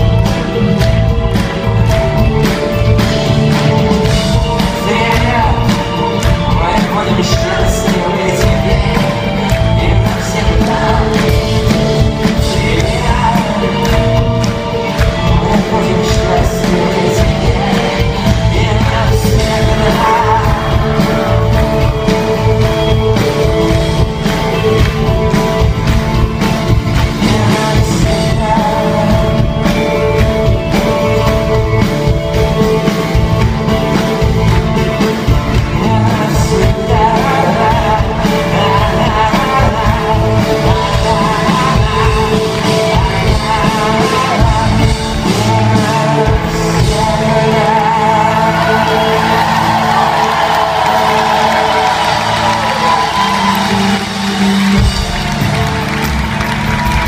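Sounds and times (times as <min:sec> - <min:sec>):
person singing: 0:00.0 - 0:55.9
rock band playing live: 0:00.0 - 0:57.0.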